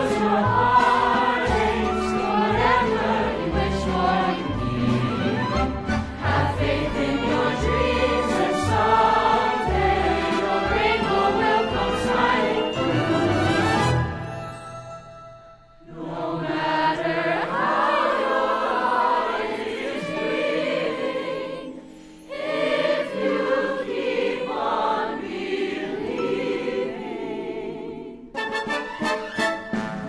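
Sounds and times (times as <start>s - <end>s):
choir singing: 0.0s - 14.5s, 15.8s - 28.6s.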